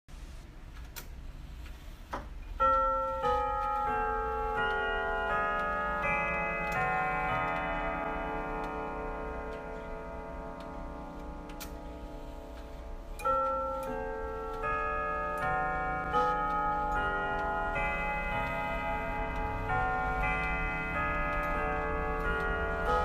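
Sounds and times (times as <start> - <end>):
grandfather clock chime melody: 2.6 - 23.0.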